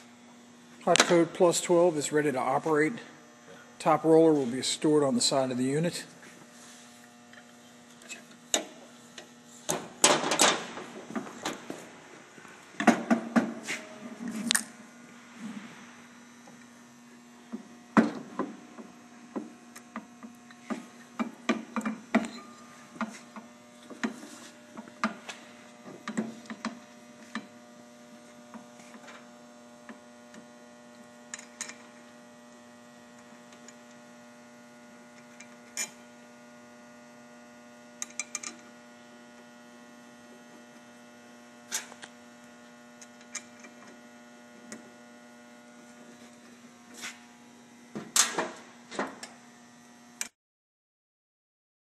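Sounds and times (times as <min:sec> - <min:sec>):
machine humming with electrical buzz: 0:00.0 - 0:50.4.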